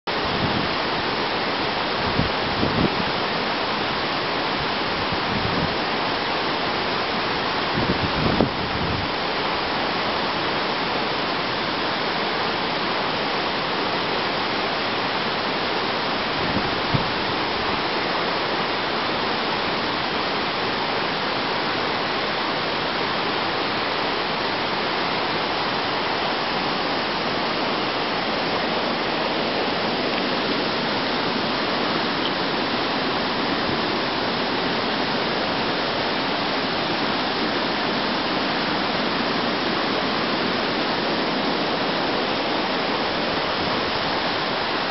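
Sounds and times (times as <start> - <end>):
mountain stream rushing: 0.1 - 44.9.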